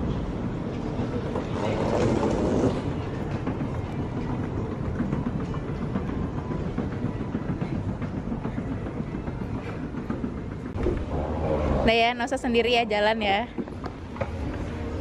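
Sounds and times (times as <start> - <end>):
escalator rumbling: 0.0 - 15.0.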